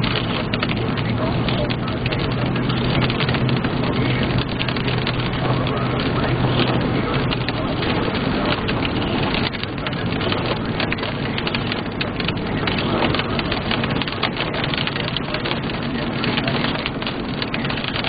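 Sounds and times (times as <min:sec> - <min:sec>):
heavy rain hitting a car: 0:00.0 - 0:18.0
tyre noise on wet road: 0:00.0 - 0:18.0.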